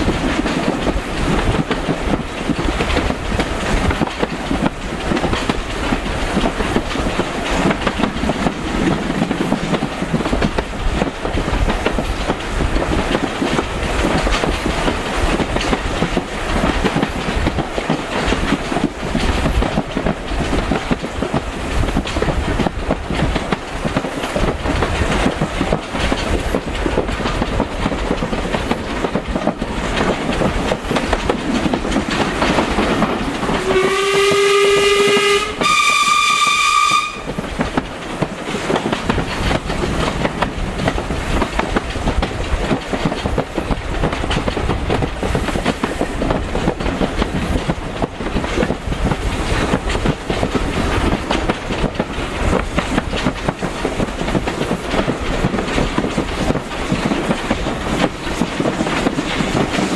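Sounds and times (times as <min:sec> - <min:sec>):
railway carriage wheels clattering: 0:00.0 - 0:59.9.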